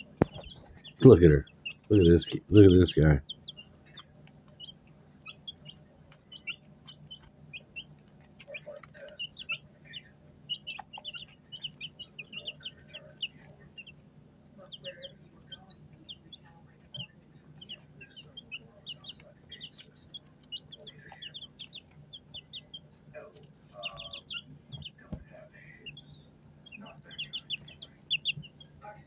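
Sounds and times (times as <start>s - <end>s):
chickens peeping and chirping: 0.0s - 29.0s
steady low hum: 0.0s - 29.0s.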